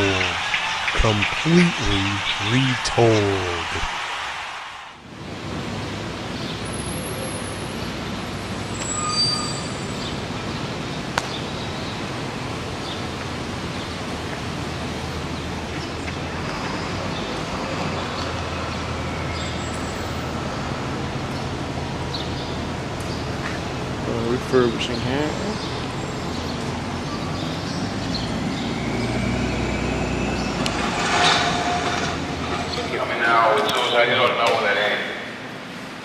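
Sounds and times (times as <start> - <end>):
city street traffic hum: 0.0 - 36.0.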